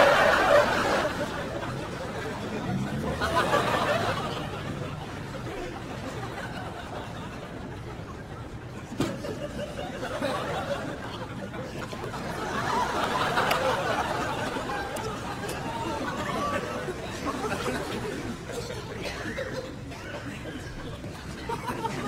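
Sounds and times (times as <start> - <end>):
audience laughing: 0.0 - 22.0.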